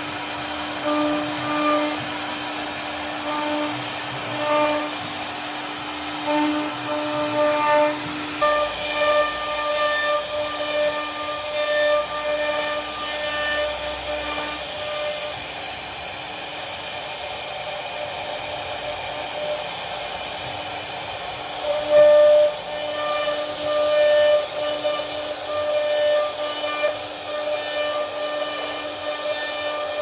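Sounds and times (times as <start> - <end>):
bit cutting wood hiss: 0.0 - 30.0
router spindle whine: 0.0 - 30.0.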